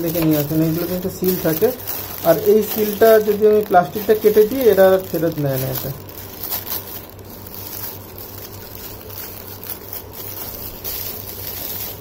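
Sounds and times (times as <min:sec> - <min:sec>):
plastic wrapping crinkling: 0:00.0 - 0:12.0
steady low hum: 0:00.0 - 0:12.0.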